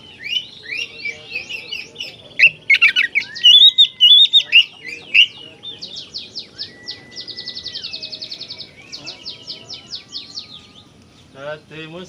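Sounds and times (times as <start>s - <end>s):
bird singing chirps and trills: 0.0s - 12.0s.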